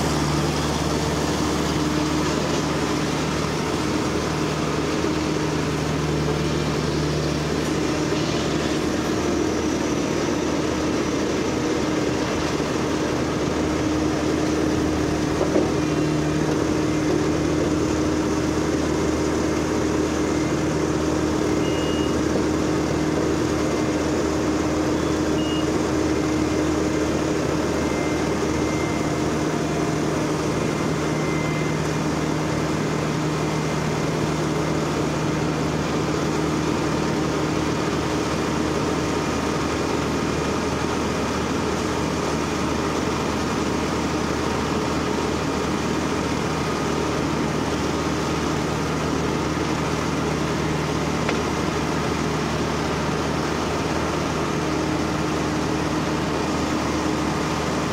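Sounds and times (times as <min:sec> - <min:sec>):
diesel roller engine running: 0:00.0 - 0:57.9.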